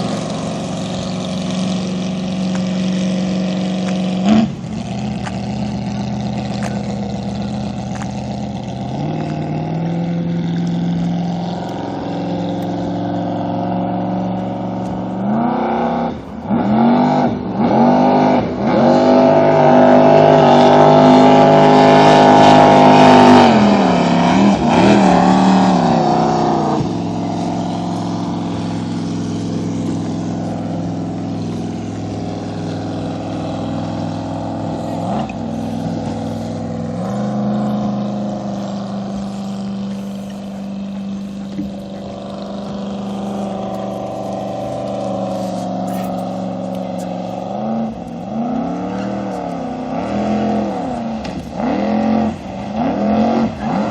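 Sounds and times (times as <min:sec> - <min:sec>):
boat engine idling and revving: 0:00.0 - 0:53.9.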